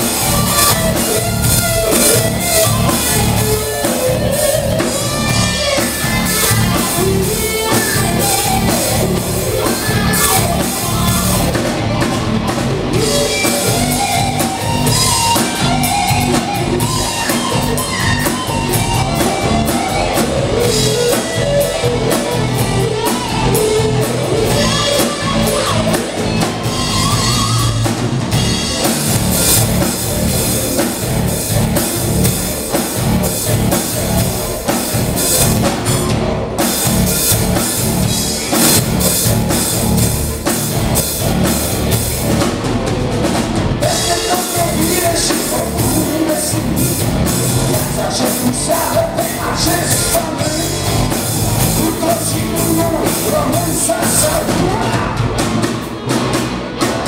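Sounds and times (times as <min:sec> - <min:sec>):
drum kit pounding beat: 0:00.0 - 0:57.0
electric guitars: 0:00.0 - 0:57.0.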